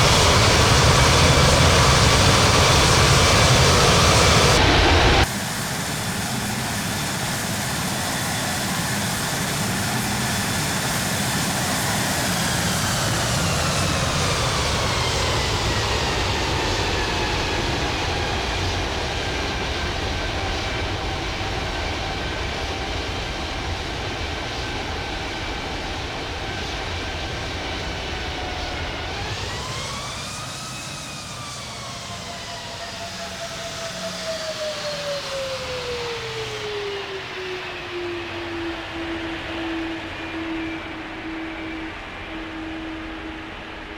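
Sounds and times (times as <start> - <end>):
jet engines droning and whining: 0.0 - 43.9.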